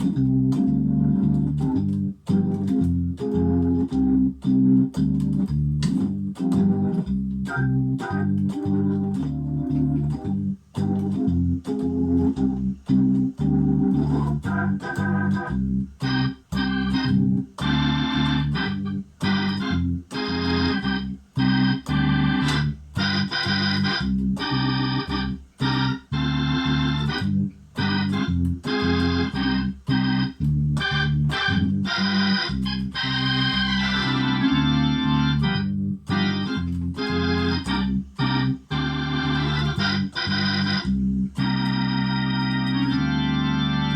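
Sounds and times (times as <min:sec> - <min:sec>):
organ chords through rotary speaker: 0:00.0 - 0:43.9.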